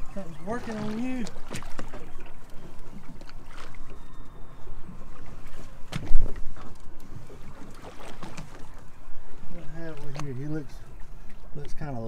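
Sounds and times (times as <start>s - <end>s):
water sloshing against boat hull: 0.0s - 12.0s.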